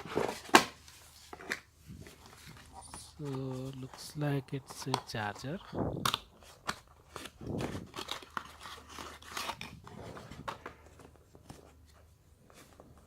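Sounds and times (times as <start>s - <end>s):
cardboard packaging crinkling: 0.0s - 13.0s.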